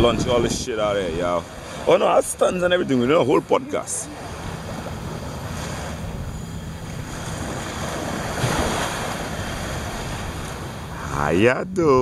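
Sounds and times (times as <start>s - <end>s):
small waves washing on sand: 0.0s - 11.5s
wind rumbling on microphone: 0.0s - 12.0s.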